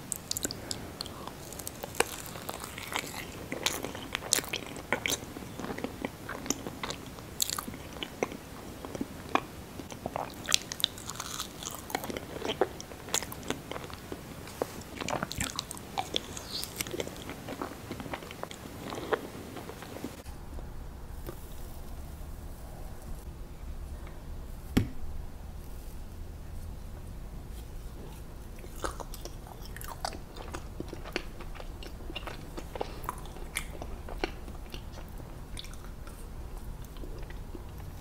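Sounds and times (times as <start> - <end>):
person chewing: 0.0 - 20.2, 27.5 - 38.0.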